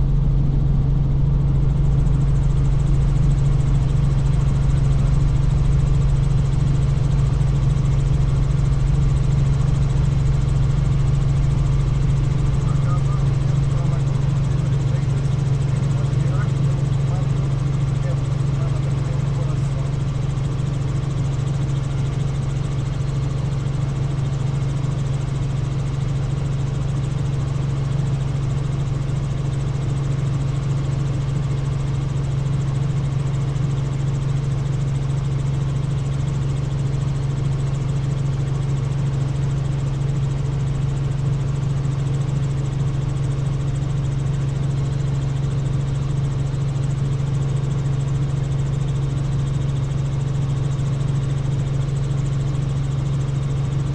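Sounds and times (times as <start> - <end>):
helicopter rotor drone: 0.0 - 53.9.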